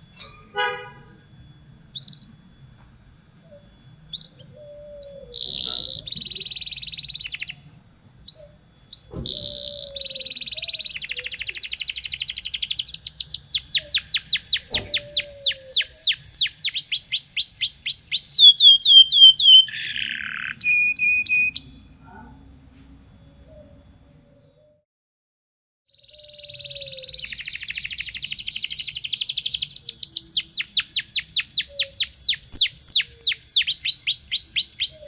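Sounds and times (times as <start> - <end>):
canary singing: 0.0 - 24.8, 25.9 - 35.0.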